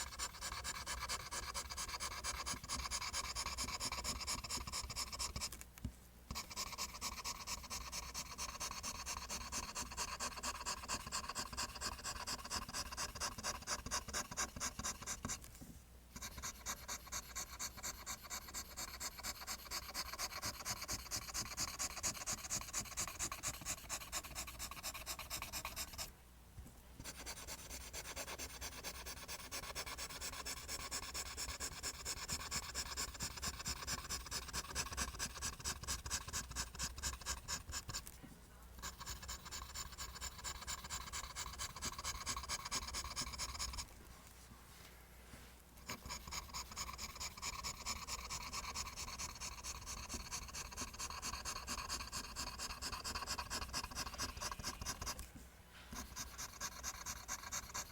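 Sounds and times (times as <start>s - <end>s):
pencil scratching on paper: 0.0s - 5.6s, 6.3s - 15.5s, 16.2s - 26.1s, 27.0s - 38.2s, 38.8s - 43.9s, 45.8s - 55.3s, 55.9s - 57.9s.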